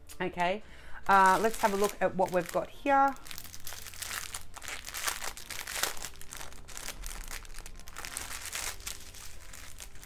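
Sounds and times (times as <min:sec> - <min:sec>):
plastic bag crinkling: 0:01.0 - 0:10.0.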